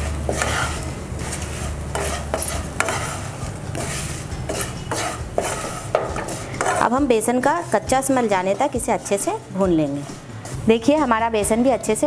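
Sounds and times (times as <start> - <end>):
spatula scraping a frying pan: 0.0 - 11.2
light sizzle of frying: 0.0 - 12.0.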